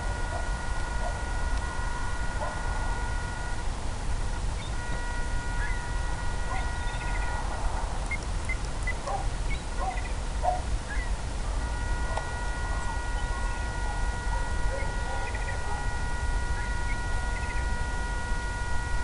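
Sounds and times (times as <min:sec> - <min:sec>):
high electronic whine: 0:00.0 - 0:19.0.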